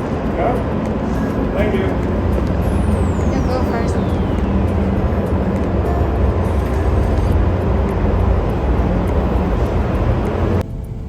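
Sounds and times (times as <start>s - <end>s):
rushing noise: 0.0s - 11.0s
vehicle rumble: 0.0s - 11.0s.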